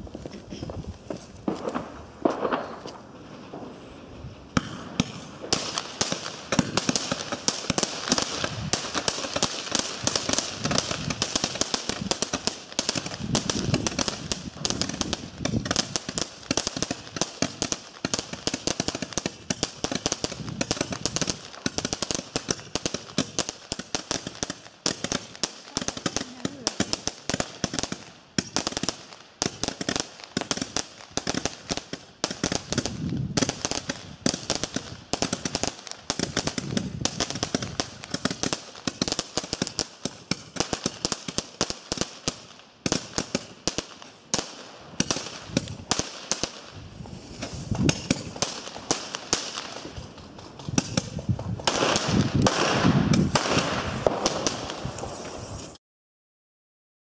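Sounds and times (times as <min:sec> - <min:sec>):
firework sharp pops: 0:00.0 - 0:55.8.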